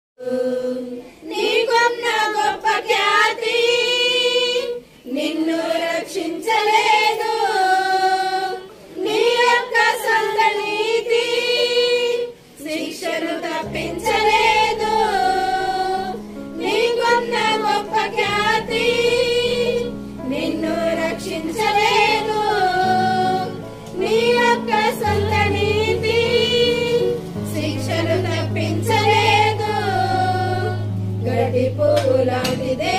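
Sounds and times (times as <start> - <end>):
women singing a hymn: 0.2 - 32.9.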